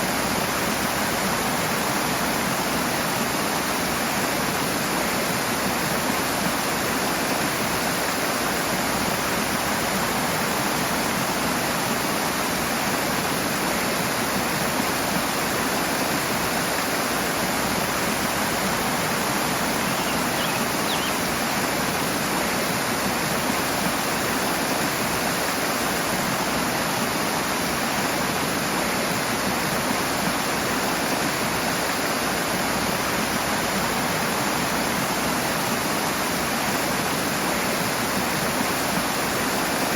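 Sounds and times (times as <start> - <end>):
fast-flowing stream rushing: 0.0 - 39.9.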